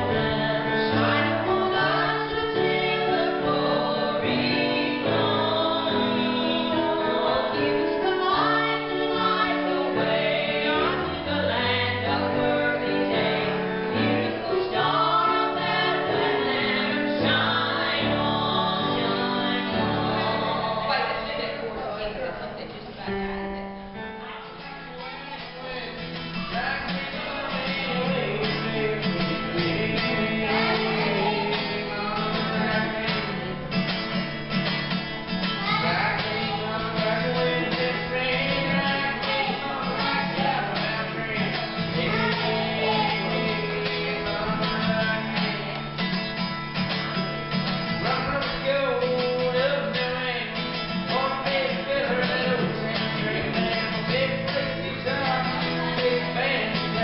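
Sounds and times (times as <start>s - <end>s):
acoustic guitars strumming: 0.0s - 57.0s
picked guitar melody: 0.0s - 57.0s.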